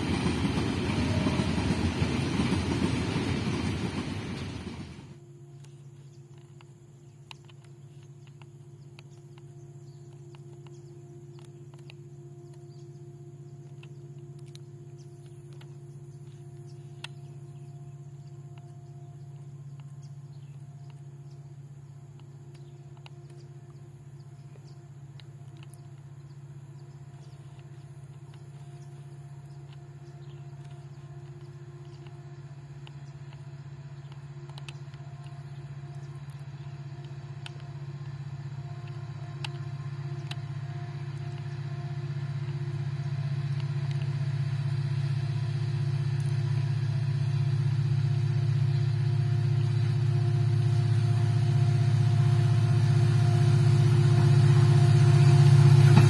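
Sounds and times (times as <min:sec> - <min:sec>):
diesel locomotive engine hum: 0:00.0 - 0:56.0.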